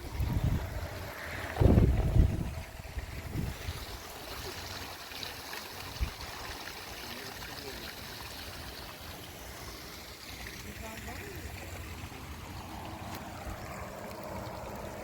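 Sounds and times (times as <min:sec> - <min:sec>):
water trickling over rock: 0:00.0 - 0:15.0.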